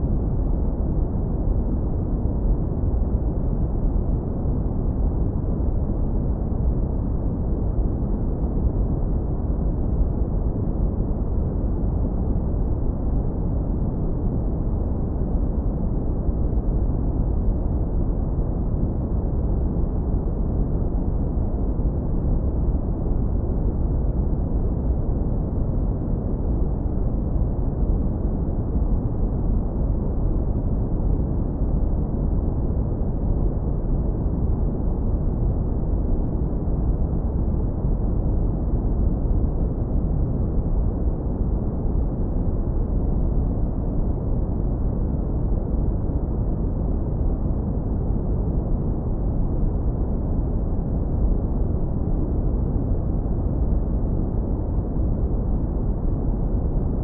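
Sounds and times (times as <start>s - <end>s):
deep brown noise rumble: 0.0s - 57.0s.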